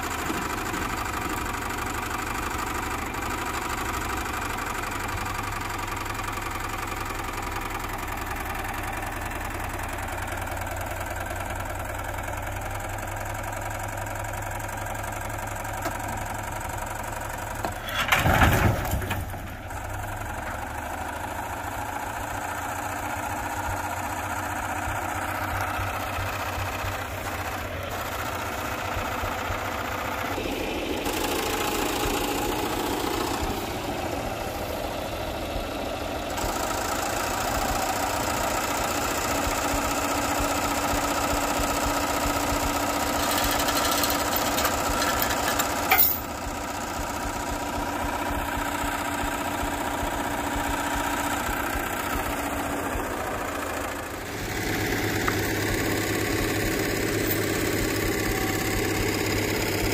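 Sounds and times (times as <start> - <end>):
vehicle engine running: 0.0 - 18.0, 19.1 - 59.9.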